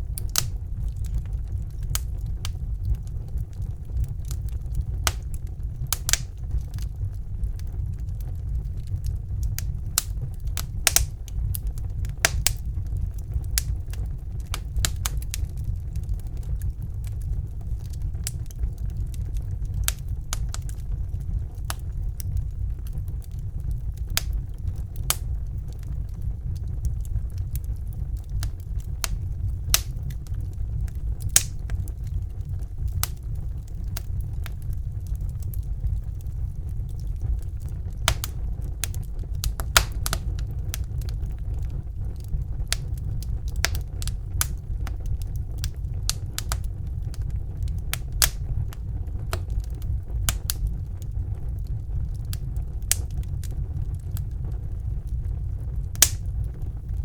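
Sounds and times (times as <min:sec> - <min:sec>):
wood fire crackling in fireplace: 0:00.0 - 0:57.0.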